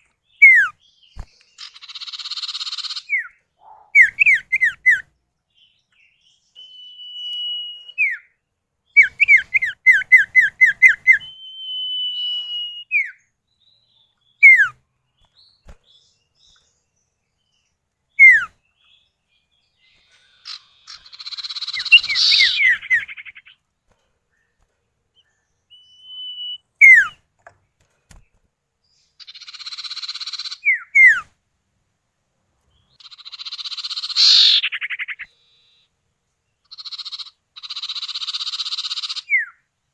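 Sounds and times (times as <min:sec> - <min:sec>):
birds calling back and forth: 0:00.0 - 0:39.9.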